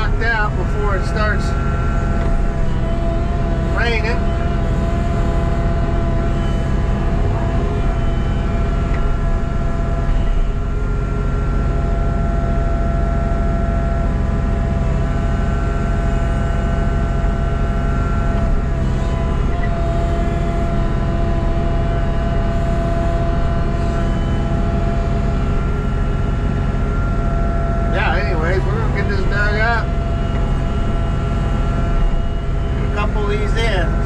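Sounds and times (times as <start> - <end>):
excavator diesel engine running: 0.0 - 34.0
hydraulic whine: 0.0 - 34.0.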